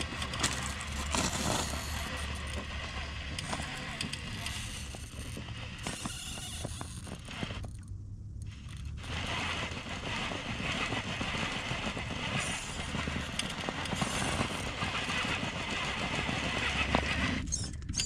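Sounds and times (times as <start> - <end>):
tyres scraping on rock: 0.0 - 7.7, 8.9 - 17.5
toy car drivetrain under load: 0.0 - 7.8, 8.5 - 17.9.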